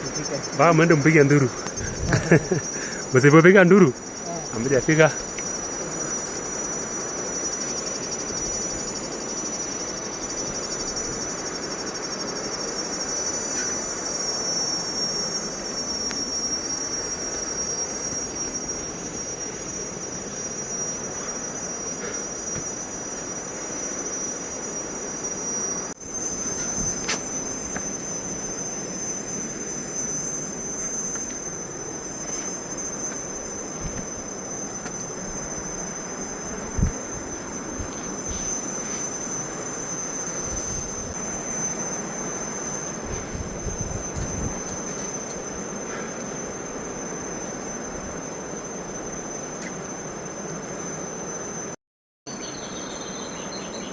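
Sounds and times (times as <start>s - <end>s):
high-pitched insect trill: 0.0s - 53.9s.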